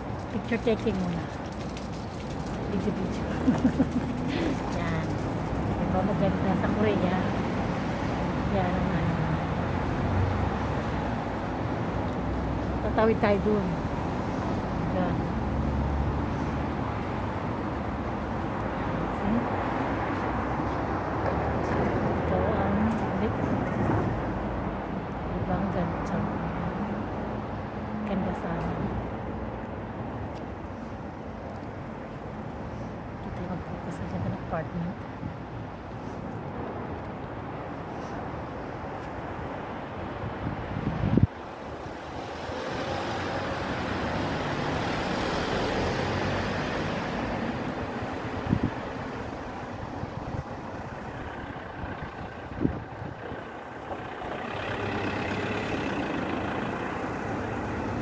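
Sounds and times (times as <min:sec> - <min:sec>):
rumble of passing cars and buses: 0:00.0 - 0:58.0.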